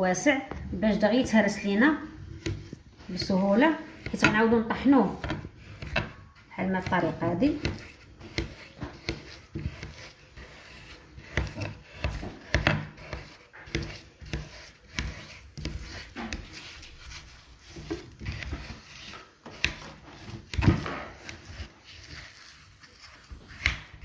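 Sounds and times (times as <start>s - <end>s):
utensil scraping and knocking ice: 1.4s - 24.0s.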